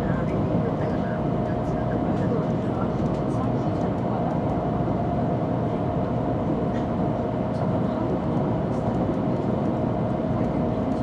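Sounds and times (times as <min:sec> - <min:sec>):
train running inside cabin: 0:00.0 - 0:11.0.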